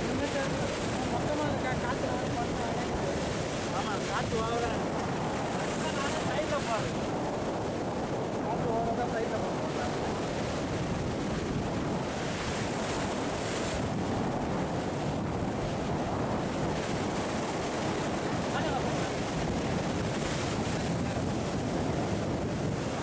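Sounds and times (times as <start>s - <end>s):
waves breaking against rocks: 0.0s - 23.0s
wind buffeting microphone: 0.0s - 23.0s.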